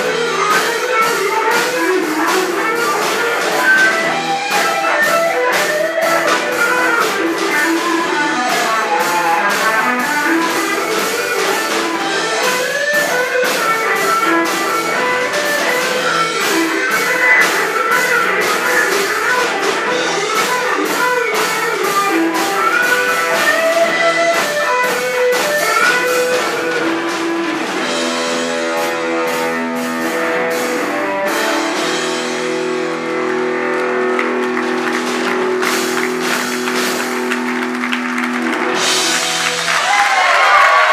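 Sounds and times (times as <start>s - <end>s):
electric guitar solo: 0.0s - 40.9s
rock band playing: 0.0s - 40.9s.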